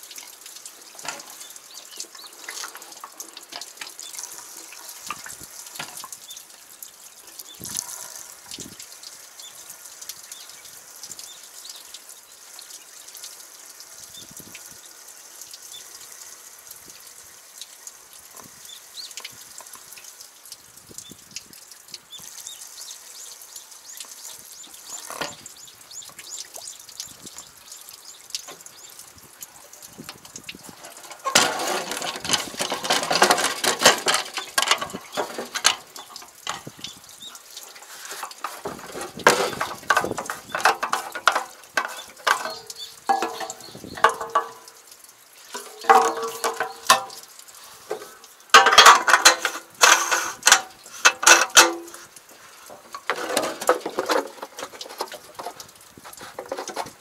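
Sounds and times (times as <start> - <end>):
fuel trickling into tank: 0.0 - 57.0.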